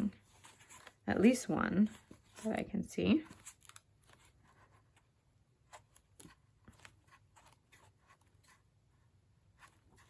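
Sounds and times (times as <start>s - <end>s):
book pages turning: 0.0s - 8.7s.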